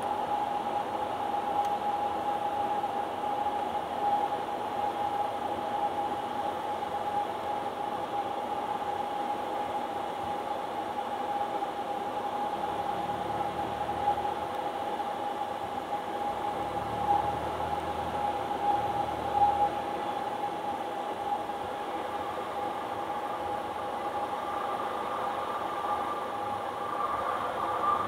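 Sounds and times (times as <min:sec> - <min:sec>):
airplane engine and propeller droning: 0:00.0 - 0:28.0
steady high hum: 0:00.0 - 0:28.0.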